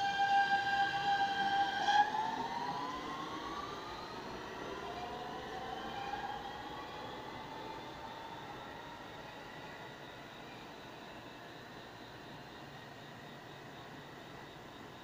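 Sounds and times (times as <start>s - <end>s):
subway traction motor whine: 0.0s - 15.0s.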